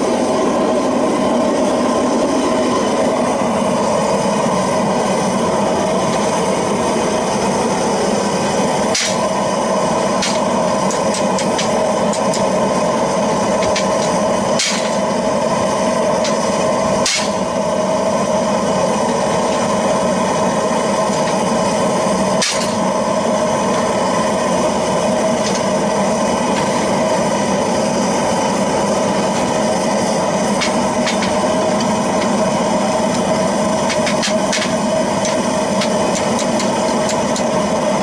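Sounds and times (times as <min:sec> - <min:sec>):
oil burner running: 0:00.0 - 0:38.0.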